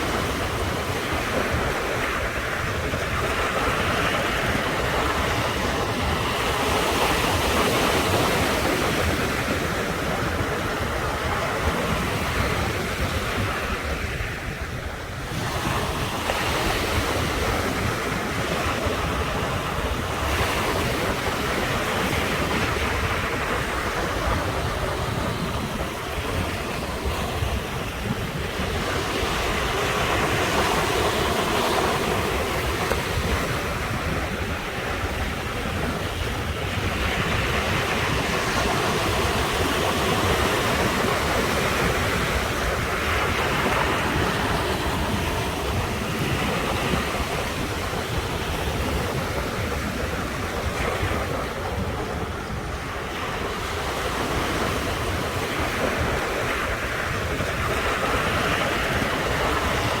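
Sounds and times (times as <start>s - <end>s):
sea waves breaking on shore: 0.0s - 60.0s
wind rumbling on microphone: 0.0s - 60.0s.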